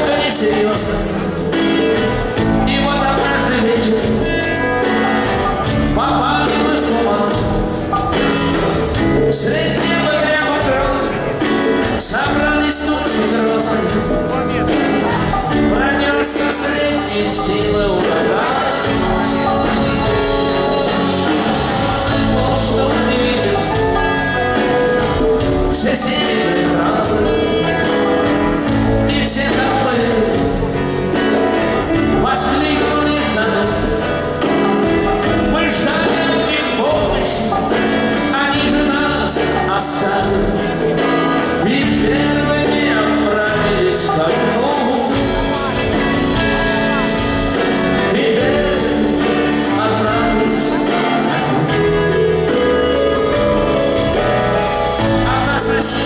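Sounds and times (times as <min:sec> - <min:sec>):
live rock band music: 0:00.0 - 0:56.0.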